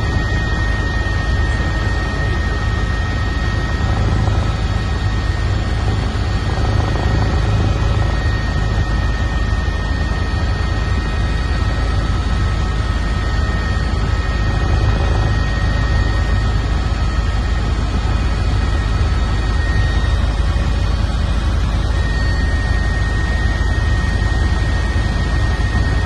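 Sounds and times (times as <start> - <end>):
helicopter rotor beat: 0.0 - 26.0
high turbine whine: 0.0 - 26.0.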